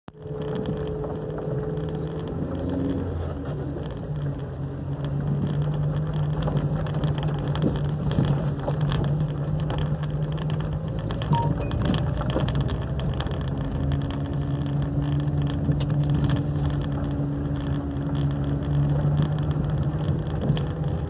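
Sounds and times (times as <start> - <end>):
car engine humming: 0.1 - 21.0
tyres crackling over dirt: 0.1 - 21.0.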